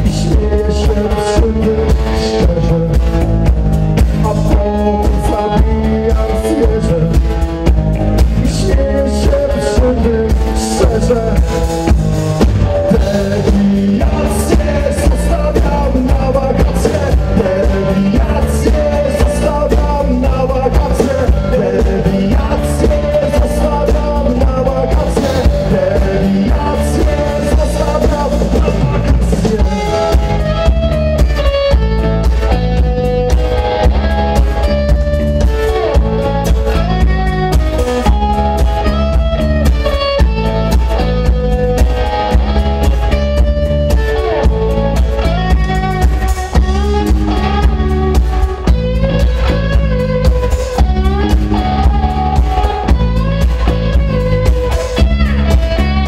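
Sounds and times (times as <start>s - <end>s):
man singing: 0.0s - 31.8s, 41.0s - 56.0s
rock band playing: 0.0s - 56.0s.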